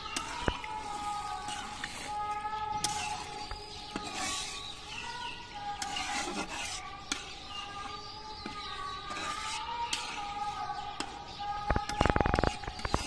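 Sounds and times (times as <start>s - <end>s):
spatula stirring simmering curry: 0.0s - 13.0s.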